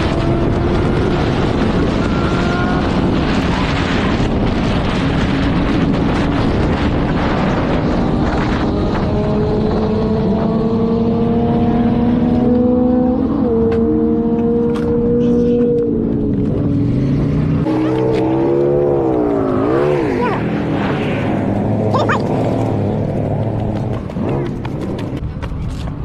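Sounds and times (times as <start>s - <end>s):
motorcycle engine accelerating: 0.0s - 26.0s
wind rushing over microphone: 0.0s - 26.0s.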